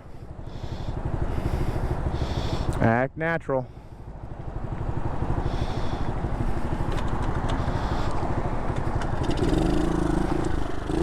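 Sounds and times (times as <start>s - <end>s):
pit bike engine running: 0.0s - 11.0s.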